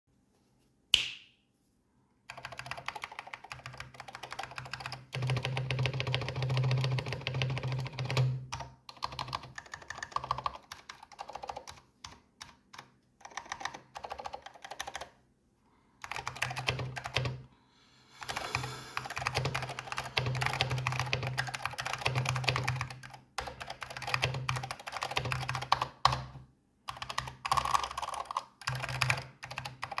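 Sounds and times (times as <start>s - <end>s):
typing on a keyboard: 2.3s - 15.2s, 16.0s - 17.4s, 18.2s - 30.0s.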